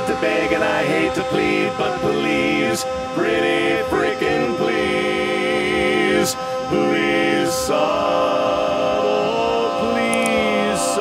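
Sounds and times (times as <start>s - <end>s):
a cappella quartet singing harmony: 0.0s - 11.0s.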